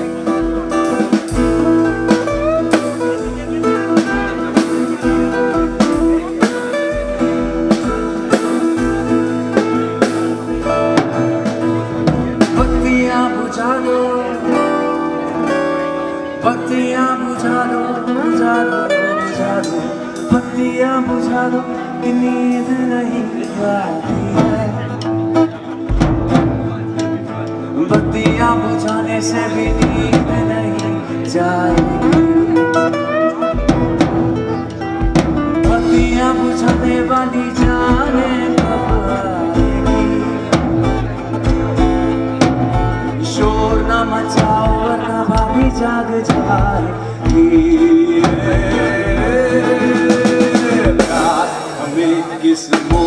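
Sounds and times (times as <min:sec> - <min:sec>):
drum and cymbal hits: 0:00.0 - 0:13.6, 0:22.2 - 0:53.0
acoustic guitars playing: 0:00.0 - 0:53.0.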